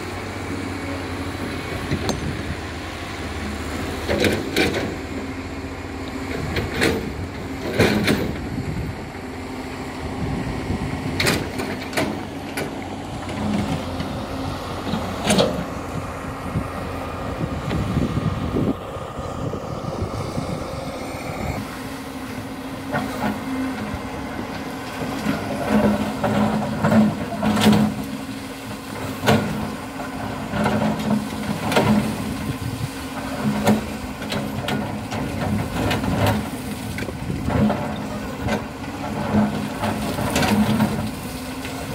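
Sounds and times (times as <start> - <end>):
excavator engine humming: 0.0 - 41.9.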